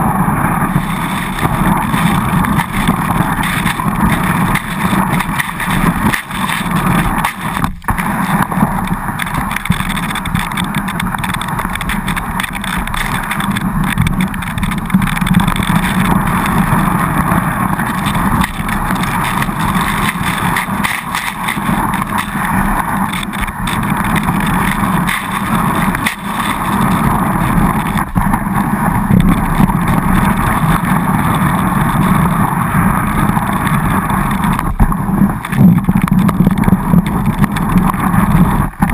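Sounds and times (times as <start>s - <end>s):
skis hissing over snow: 0.0s - 38.9s
wind rushing on microphone: 0.0s - 38.9s.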